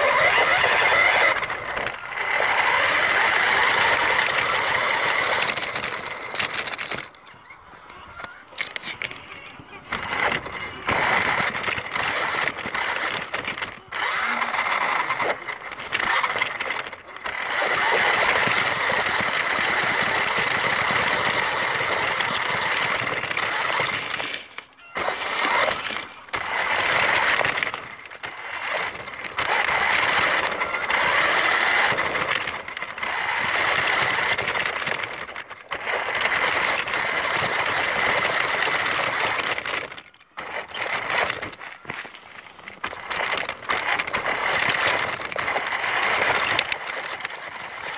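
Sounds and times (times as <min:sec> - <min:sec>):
toy car motor whirring: 0:00.0 - 0:47.9.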